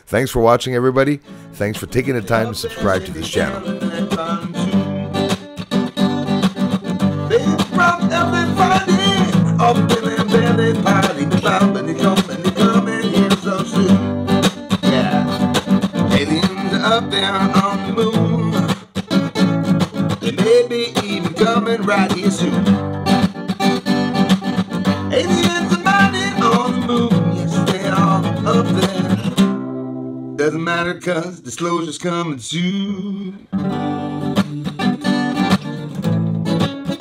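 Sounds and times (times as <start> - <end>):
guitar-led music: 1.0 - 37.0.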